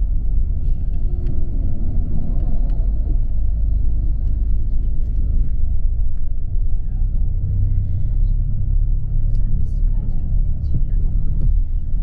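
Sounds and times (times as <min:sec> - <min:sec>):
bus engine and tyre rumble: 0:00.0 - 0:12.0.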